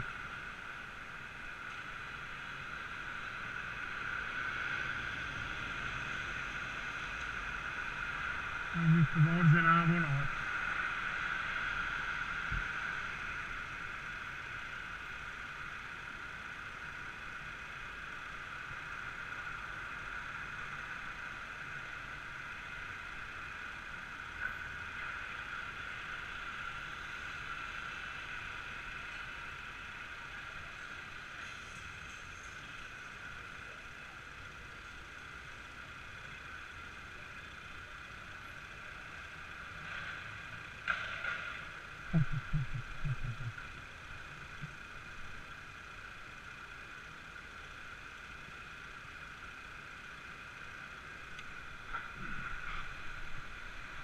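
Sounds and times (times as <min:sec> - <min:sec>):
muffled street traffic: 0:00.0 - 0:54.0.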